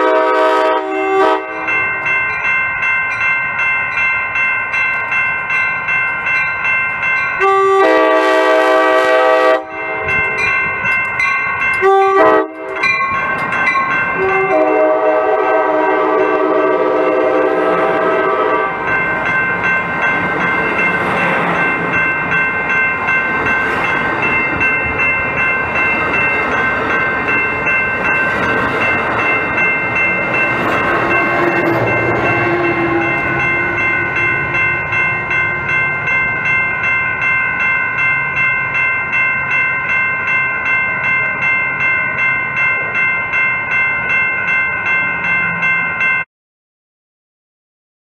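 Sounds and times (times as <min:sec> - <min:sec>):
train cars rolling on rails: 0:00.0 - 0:46.2
railroad crossing bell ringing: 0:00.0 - 0:46.3.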